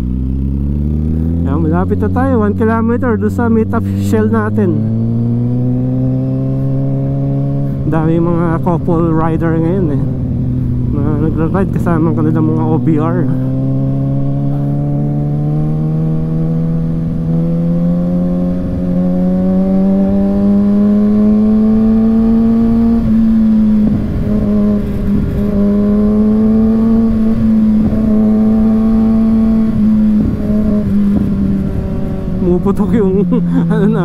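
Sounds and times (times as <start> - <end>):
motorcycle engine running: 0.0 - 34.0
wind noise: 4.8 - 34.0.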